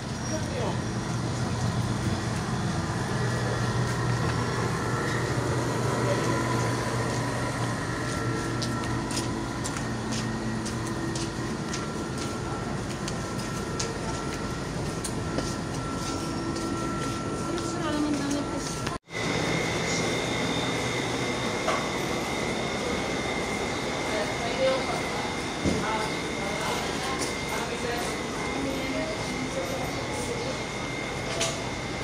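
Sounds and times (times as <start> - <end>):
air-conditioner unit humming: 0.0 - 32.0.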